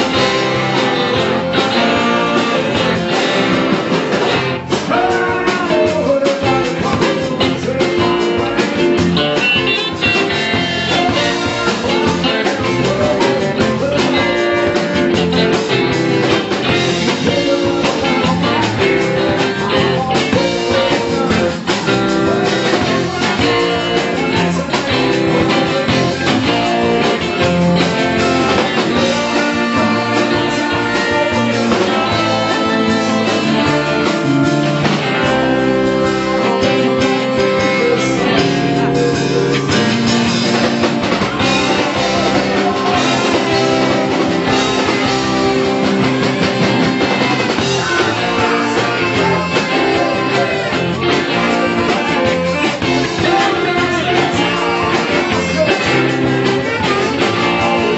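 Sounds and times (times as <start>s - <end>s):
drums: 0.0s - 57.9s
electric guitars: 0.0s - 57.9s
man singing lead vocal: 0.0s - 57.9s.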